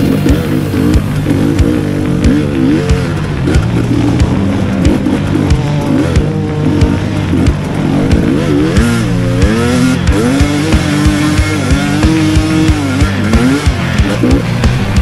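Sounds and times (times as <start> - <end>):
background music with beat: 0.0 - 15.0
dirt bike engine revving: 0.0 - 15.0.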